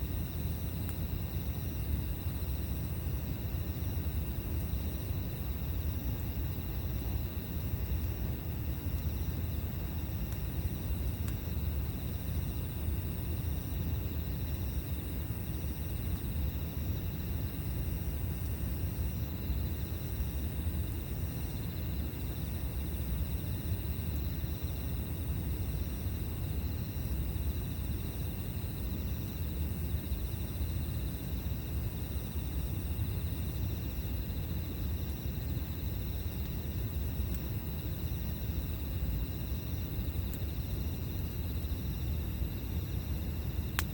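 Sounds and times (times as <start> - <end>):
higher insect song: 0.0 - 43.9
insects trilling: 0.0 - 43.9.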